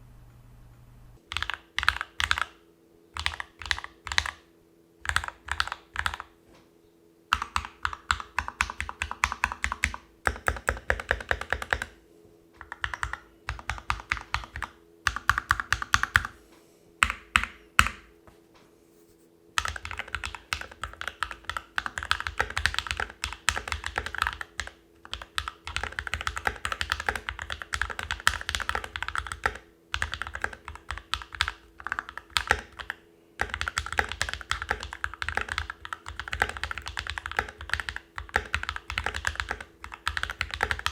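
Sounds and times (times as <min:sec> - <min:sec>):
fast typing on mechanical keyboard: 0:01.3 - 0:02.6, 0:03.2 - 0:04.4, 0:05.0 - 0:06.3, 0:07.3 - 0:12.0, 0:12.6 - 0:16.4, 0:19.6 - 0:40.9.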